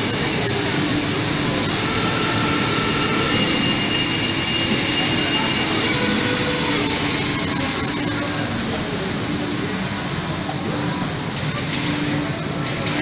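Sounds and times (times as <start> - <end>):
vacuum system rushing hum: 0.0 - 10.6.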